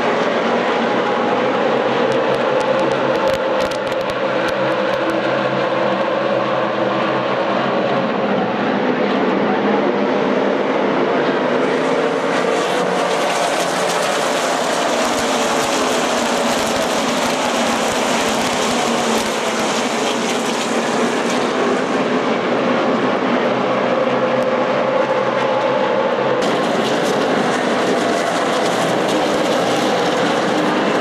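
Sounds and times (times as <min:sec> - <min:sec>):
race car engines roaring: 0:00.0 - 0:31.0.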